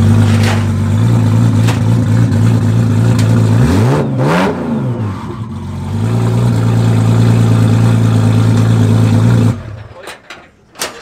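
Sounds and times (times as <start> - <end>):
sports car engine revving: 0.0 - 9.7.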